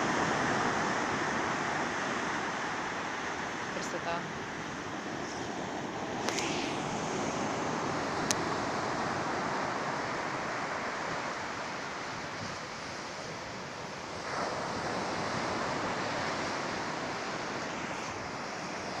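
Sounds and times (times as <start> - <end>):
sea surf washing on shore: 0.0 - 19.0.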